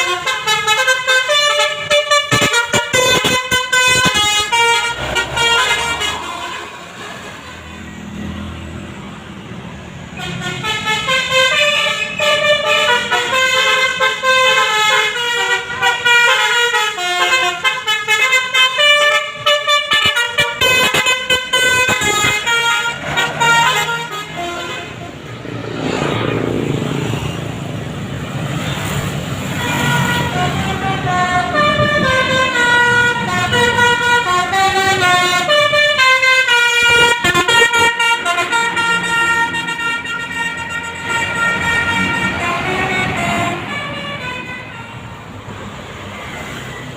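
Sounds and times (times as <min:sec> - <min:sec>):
multi-tone musical bus horn: 0:00.0 - 0:07.8, 0:10.0 - 0:26.3, 0:28.5 - 0:45.3.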